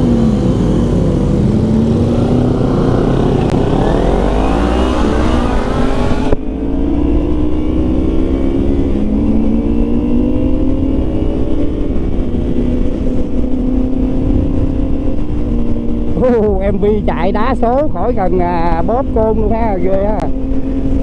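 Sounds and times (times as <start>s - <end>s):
motorcycle engine accelerating: 0.0s - 21.0s
wind noise on microphone: 0.9s - 21.0s.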